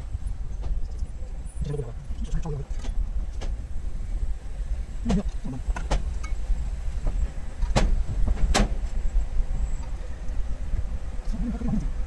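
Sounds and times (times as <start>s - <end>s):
car rumbling at low speed: 0.0s - 12.0s.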